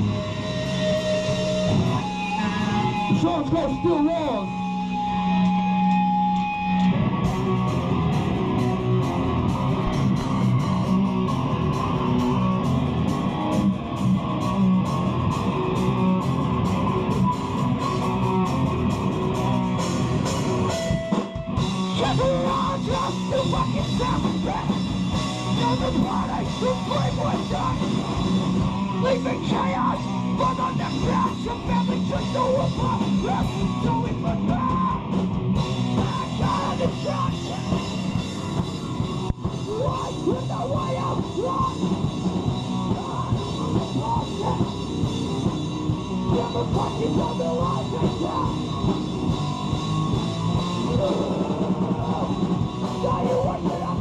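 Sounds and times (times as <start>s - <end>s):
drum kit with cymbal hits: 0.0s - 54.0s
electric guitars: 0.0s - 54.0s.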